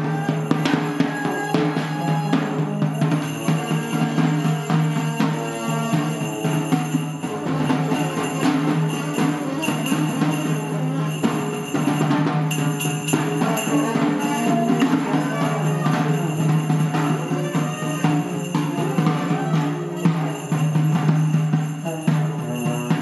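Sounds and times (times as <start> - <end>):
brass band playing: 0.0 - 23.0
percussion strikes: 0.0 - 23.0.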